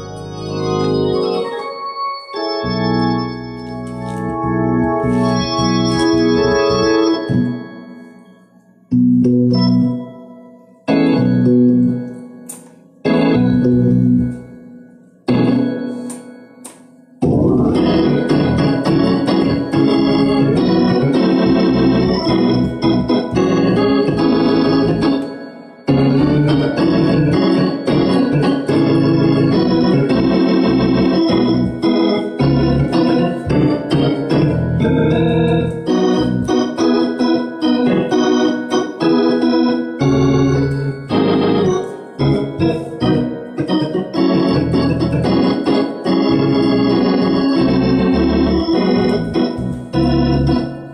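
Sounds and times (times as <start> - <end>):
organ playing chords: 0.0 - 50.9.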